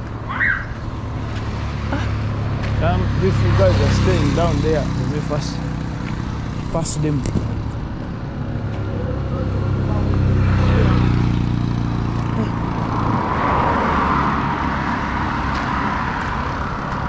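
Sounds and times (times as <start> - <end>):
road and traffic noise: 0.0 - 17.0
vehicle engine humming: 0.0 - 17.0.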